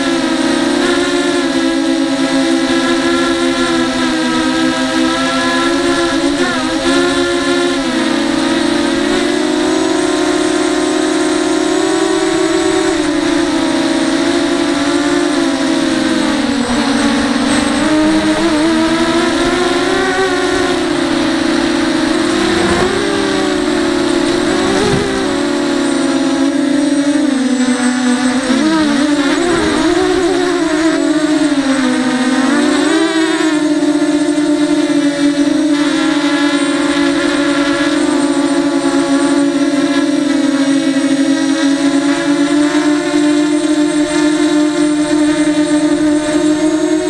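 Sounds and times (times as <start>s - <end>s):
quadcopter motors buzzing whine: 0.0s - 47.0s.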